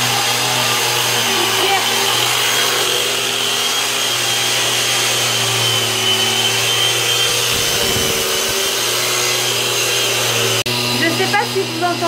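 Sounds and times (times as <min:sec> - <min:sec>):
electric motor humming and whining: 0:00.0 - 0:12.0.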